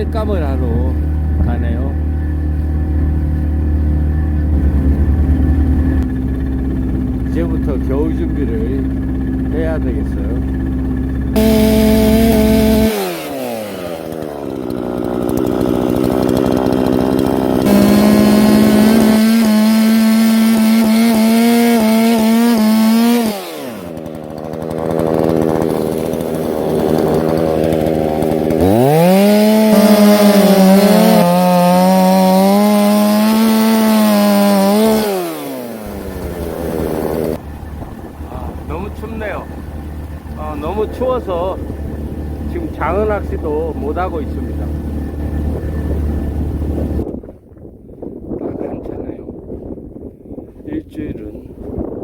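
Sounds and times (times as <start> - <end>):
chainsaw revving and idling: 0.0 - 47.0.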